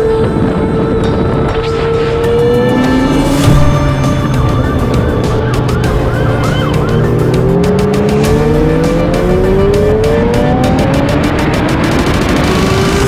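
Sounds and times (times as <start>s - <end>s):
vehicle engine accelerating: 0.0s - 13.0s
police siren warbling: 0.3s - 13.0s.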